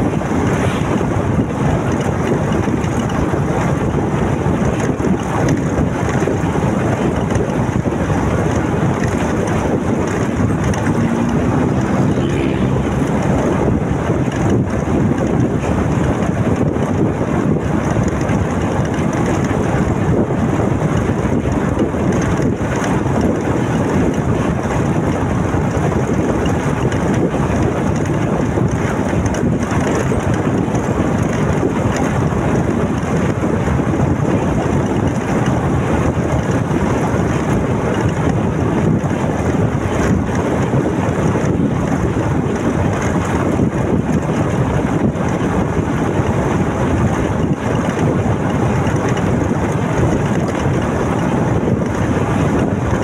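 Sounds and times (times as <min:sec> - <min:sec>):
motorcycle engine: 0:00.0 - 0:53.0
road noise: 0:00.0 - 0:53.0
wind noise on microphone: 0:00.0 - 0:53.0.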